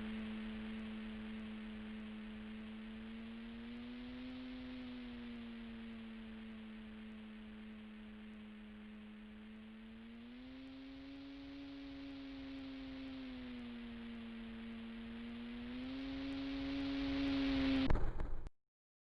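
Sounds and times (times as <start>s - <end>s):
model plane motor humming: 0.0s - 17.9s.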